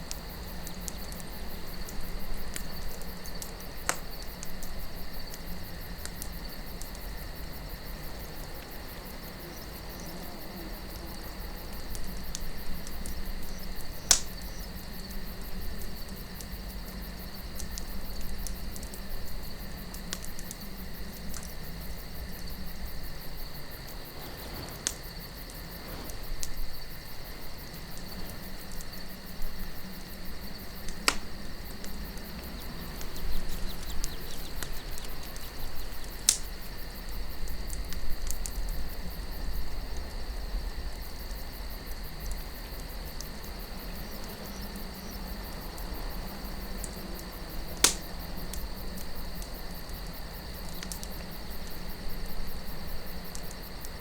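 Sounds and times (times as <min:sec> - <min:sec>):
campfire burning with pops: 0:00.0 - 0:54.0
soft wind: 0:00.0 - 0:54.0.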